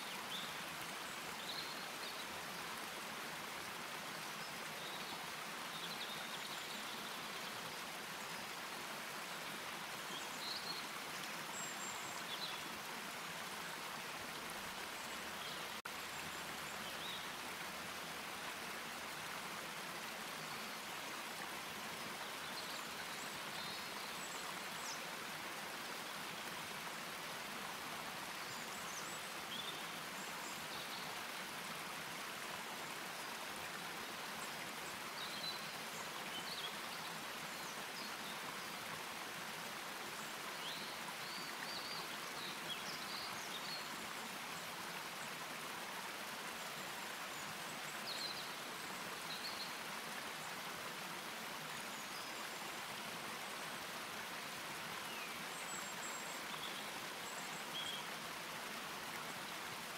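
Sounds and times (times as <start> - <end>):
songbird chirps: 0.0 - 59.9
stream rushing over rocks: 0.0 - 59.9.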